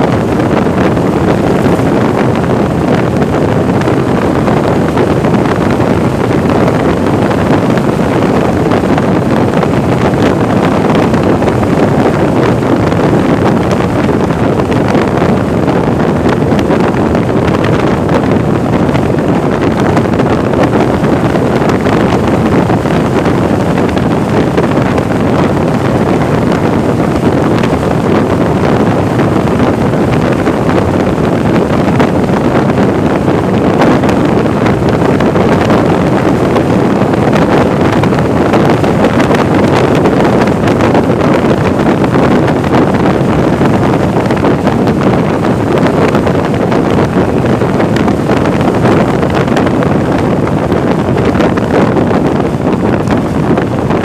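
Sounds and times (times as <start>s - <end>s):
wind blowing over microphone: 0.0s - 54.0s.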